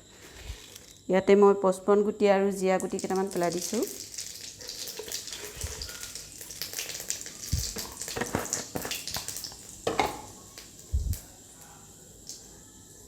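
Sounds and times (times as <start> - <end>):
seeds crackling in hot oil: 0.0 - 1.1, 2.5 - 12.5.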